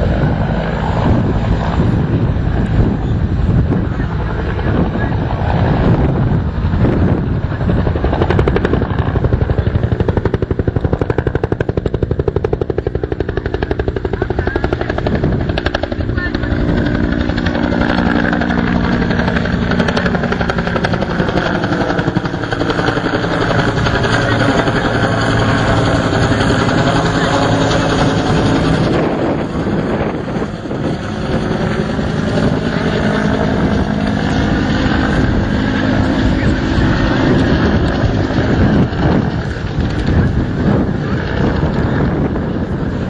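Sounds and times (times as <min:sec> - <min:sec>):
helicopter rotor beating: 0:00.0 - 0:43.0
turbine drone: 0:00.0 - 0:43.0.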